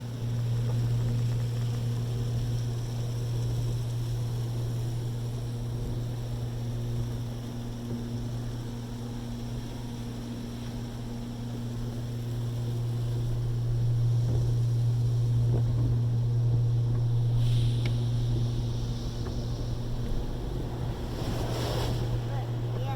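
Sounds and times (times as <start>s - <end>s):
car wash machinery drone: 0.0s - 22.9s
faint hiss: 0.1s - 22.9s.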